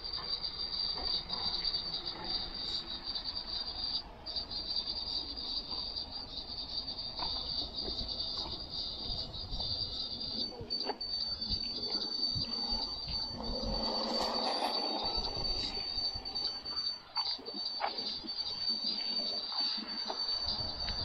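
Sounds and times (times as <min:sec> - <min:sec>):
distant traffic: 0:00.0 - 0:21.0
insect chirring buzz: 0:00.0 - 0:21.0
wind: 0:00.0 - 0:21.0.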